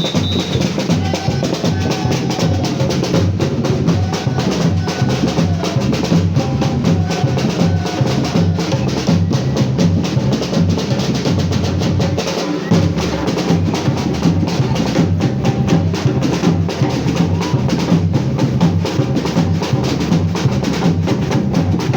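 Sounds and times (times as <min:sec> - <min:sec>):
samba drum ensemble playing: 0:00.0 - 0:21.9.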